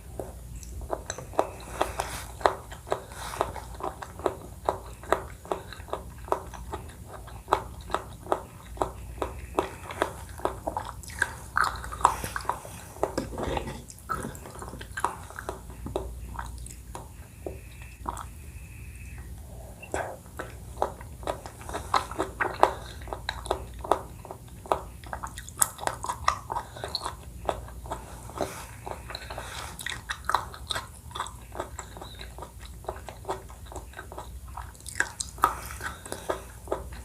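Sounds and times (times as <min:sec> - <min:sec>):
wet chewing mouth clicks: 0:00.0 - 0:37.0.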